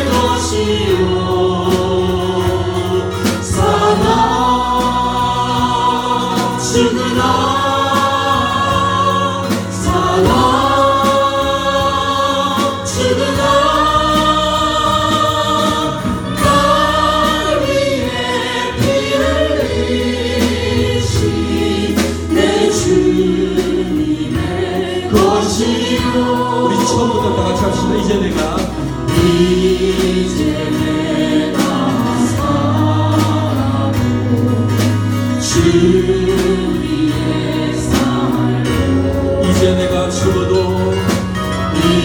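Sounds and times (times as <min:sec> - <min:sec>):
group singing worship song: 0:00.0 - 0:42.0
instrumental accompaniment: 0:00.0 - 0:42.0.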